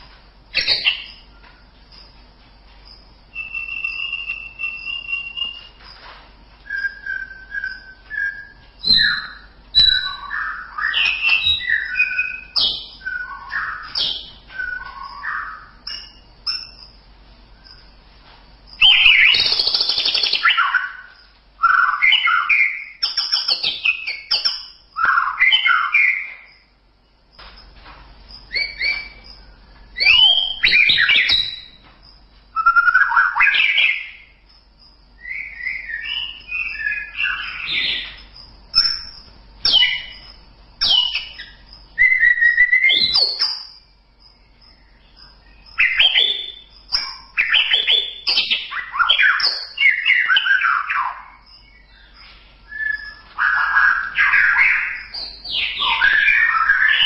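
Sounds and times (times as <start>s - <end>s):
bird singing: 0.0s - 57.0s.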